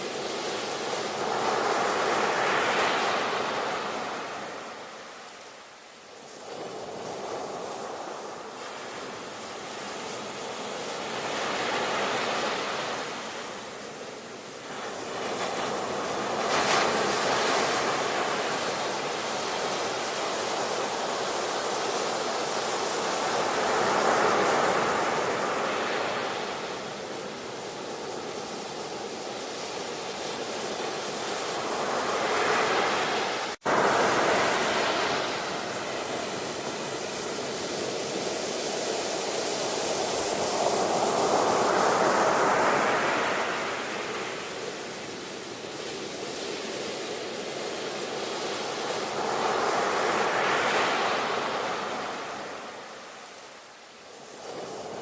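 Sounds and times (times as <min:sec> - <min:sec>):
ocean waves breaking: 0:00.0 - 0:05.6, 0:06.2 - 0:55.0.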